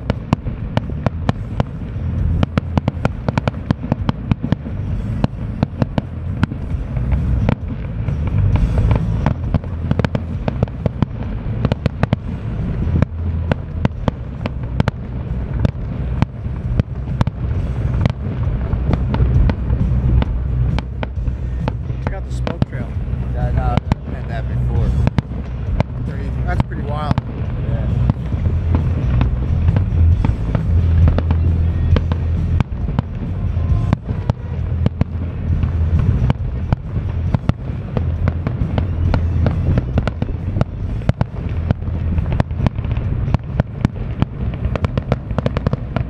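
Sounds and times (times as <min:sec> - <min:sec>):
fireworks bangs and crackles: 0:00.0 - 0:46.0
low rumble: 0:00.0 - 0:46.0.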